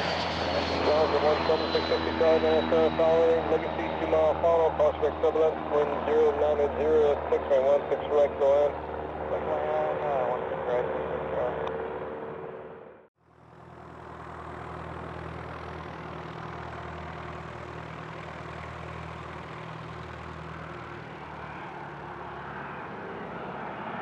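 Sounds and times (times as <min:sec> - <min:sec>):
aircraft engine running: 0:00.0 - 0:24.0.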